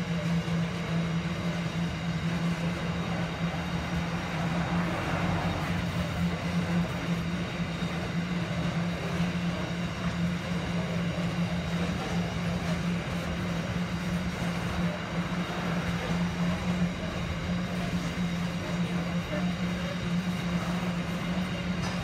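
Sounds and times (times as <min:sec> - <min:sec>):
constant low hum: 0:00.0 - 0:22.0
steel wheels rumbling on rails: 0:00.0 - 0:22.0.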